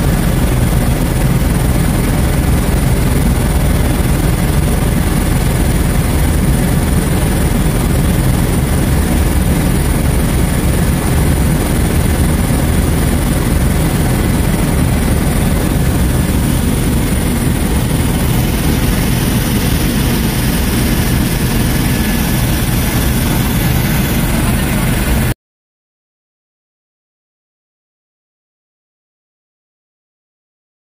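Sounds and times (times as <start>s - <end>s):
helicopter engine and rotor drone: 0.0s - 25.4s.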